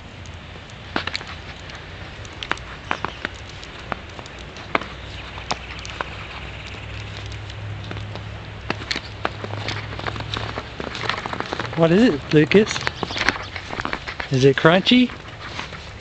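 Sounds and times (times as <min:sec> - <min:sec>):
low steady hum: 0:00.0 - 0:16.0
footsteps crunching snow: 0:00.8 - 0:16.0.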